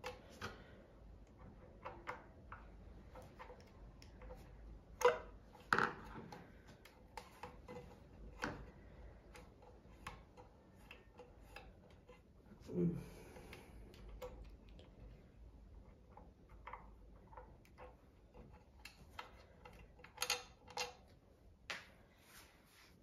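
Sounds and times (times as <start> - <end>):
small clicks and taps on plastic: 0.0 - 12.4, 13.4 - 22.0.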